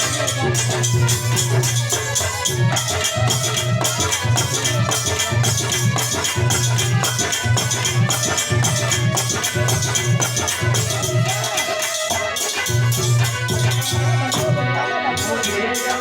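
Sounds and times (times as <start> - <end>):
jingling hand percussion: 0.0 - 16.0
repeating drum beat: 0.0 - 16.0.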